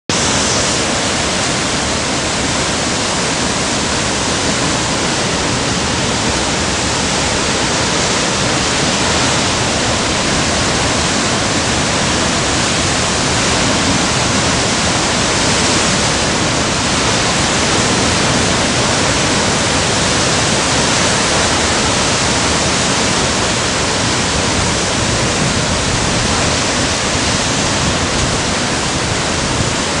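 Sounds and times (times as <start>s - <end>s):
surf breaking on rocky shore: 0.1s - 30.0s.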